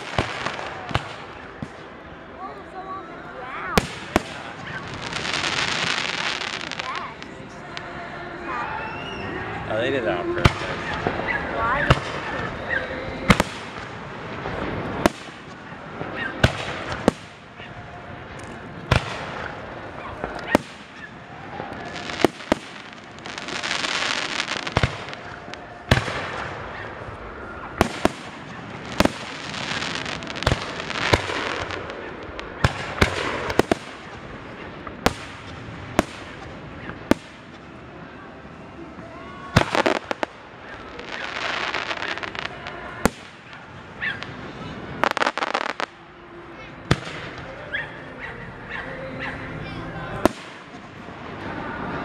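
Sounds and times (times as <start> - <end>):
fireworks bursting with bangs: 0.0 - 49.4, 50.1 - 52.0
fireworks crackling: 0.0 - 52.0.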